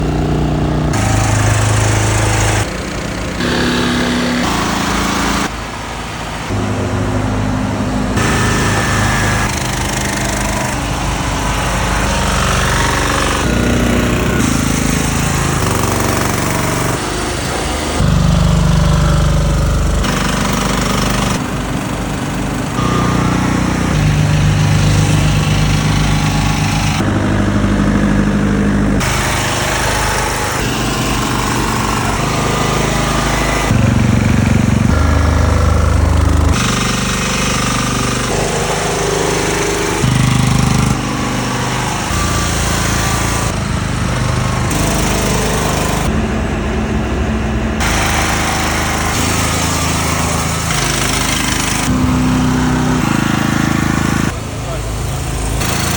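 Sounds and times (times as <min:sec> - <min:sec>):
generator engine hum: 0:00.0 - 0:55.9.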